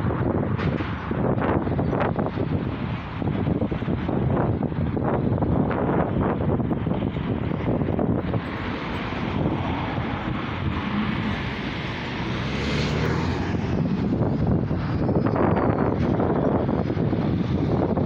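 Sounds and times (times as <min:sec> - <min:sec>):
bus diesel engine: 0:00.0 - 0:18.0
road traffic: 0:00.0 - 0:18.0.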